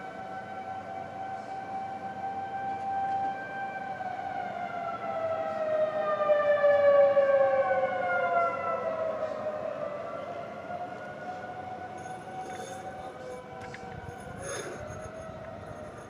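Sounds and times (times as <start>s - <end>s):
tornado sirens wailing: 0.0s - 16.0s.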